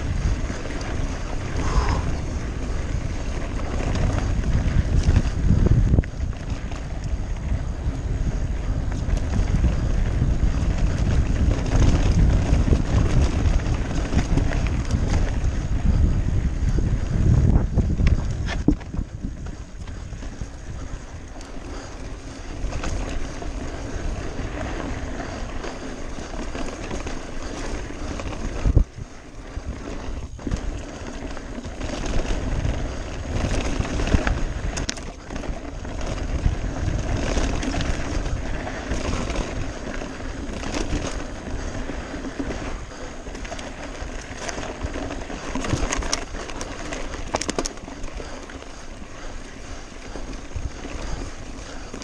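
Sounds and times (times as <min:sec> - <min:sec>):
bike rattling and knocking: 0:00.0 - 0:52.0
tyres crunching over gravel: 0:00.0 - 0:52.0.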